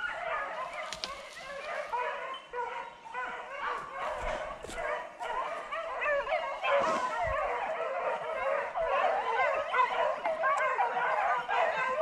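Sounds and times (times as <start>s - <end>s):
pack of hounds baying: 0.0s - 12.0s.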